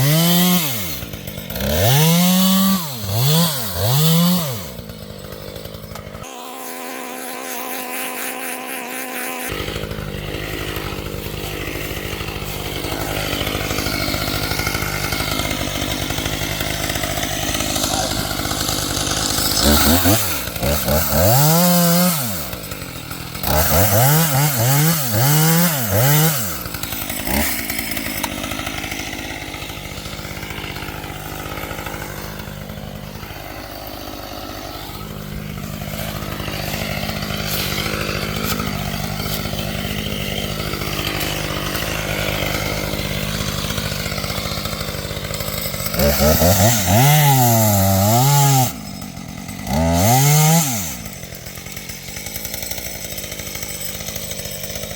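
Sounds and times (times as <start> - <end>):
chainsaw revving: 0.0 - 54.9.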